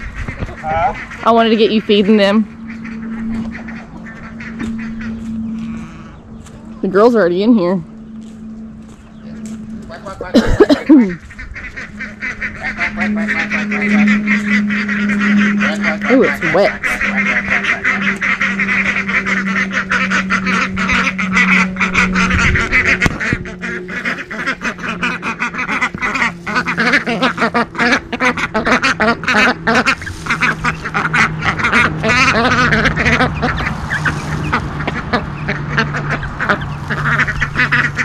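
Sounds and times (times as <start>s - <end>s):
ducks quacking: 0.0s - 38.0s.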